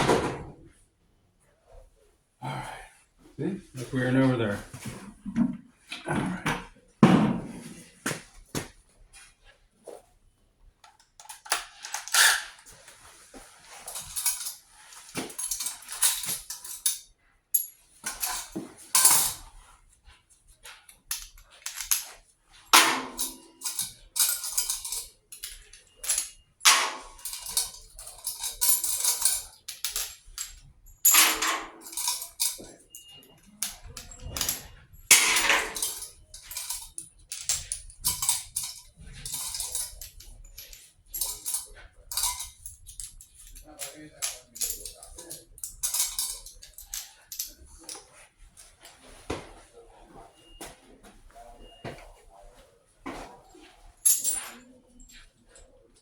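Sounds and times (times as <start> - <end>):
tools and hardware clattering: 0.0 - 0.8, 3.8 - 9.3, 10.8 - 19.8, 20.6 - 56.0.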